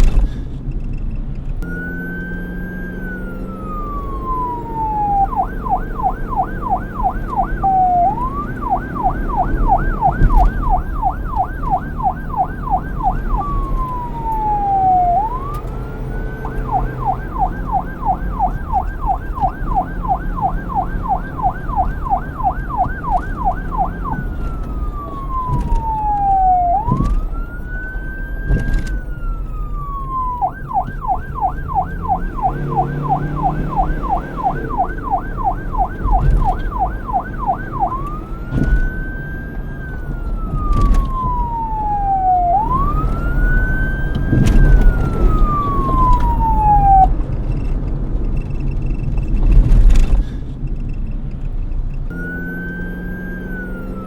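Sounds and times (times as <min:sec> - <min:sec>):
low traffic rumble: 0:00.0 - 0:54.0
police siren yelp and wail: 0:01.6 - 0:47.3, 0:52.1 - 0:54.0.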